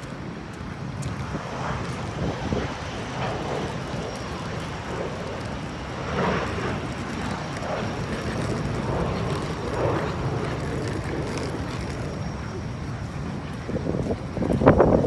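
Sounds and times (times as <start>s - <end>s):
jet airliner rumble: 0.0s - 15.0s
wind buffeting microphone: 0.0s - 15.0s.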